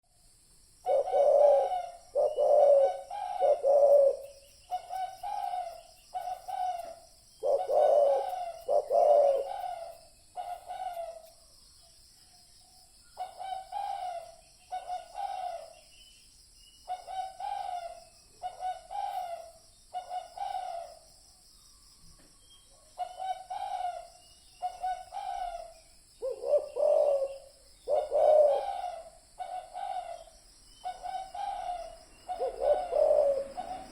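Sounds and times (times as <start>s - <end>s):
steady high-pitched hiss: 0.0s - 33.9s
dove cooing: 0.8s - 11.2s, 13.2s - 15.7s, 16.9s - 20.9s, 23.0s - 33.9s.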